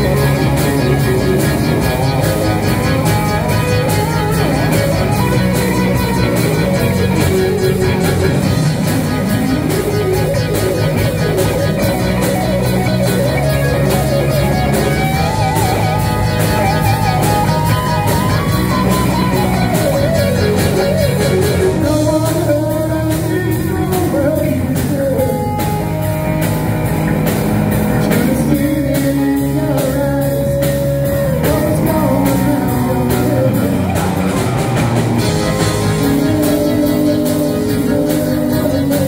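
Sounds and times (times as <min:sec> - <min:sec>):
bass guitar: 0:00.0 - 0:39.0
drums: 0:00.0 - 0:39.0
electric guitar: 0:00.0 - 0:39.0
wavering lead melody: 0:00.0 - 0:39.0.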